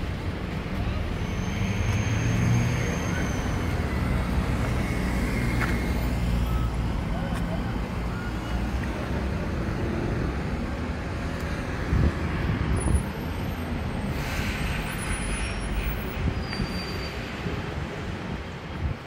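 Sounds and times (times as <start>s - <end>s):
bus engine rumbling: 0.0s - 19.0s
city street traffic: 0.0s - 19.0s.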